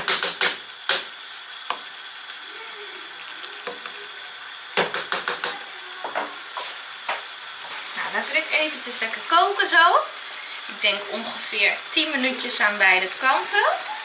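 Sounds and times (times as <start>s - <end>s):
chicken frying in a pan: 0.0s - 14.0s.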